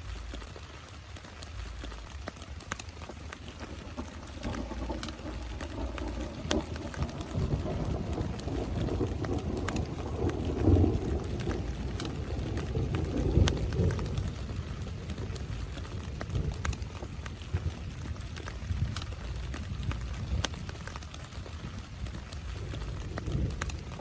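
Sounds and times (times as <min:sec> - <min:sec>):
rain falling: 0:00.0 - 0:24.0
raindrops ticking on a tent: 0:00.0 - 0:24.0
low uneven rumble: 0:01.5 - 0:24.0.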